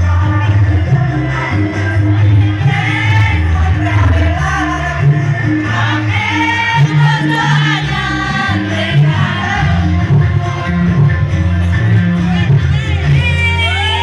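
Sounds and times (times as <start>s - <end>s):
choir singing pop song with band: 0.0s - 14.0s.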